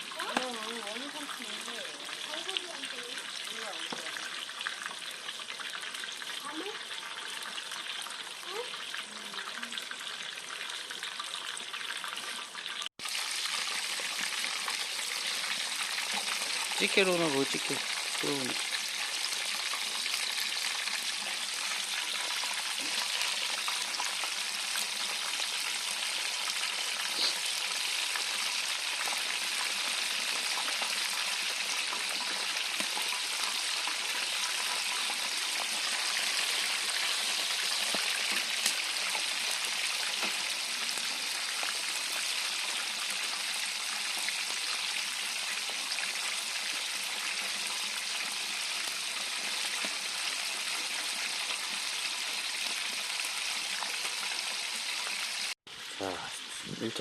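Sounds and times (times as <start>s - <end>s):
chicken sizzling in hot oil: 0.0s - 56.3s.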